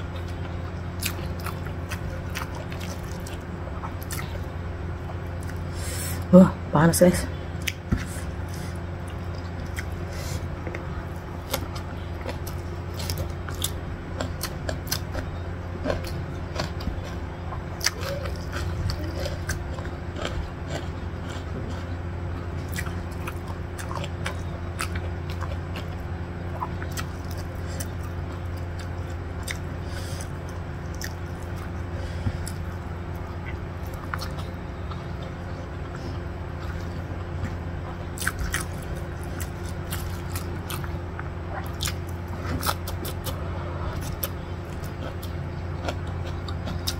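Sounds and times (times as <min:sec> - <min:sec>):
chewing and mouth clicks: 0:00.0 - 0:05.7, 0:07.6 - 0:46.9
steady low hum: 0:00.0 - 0:46.9.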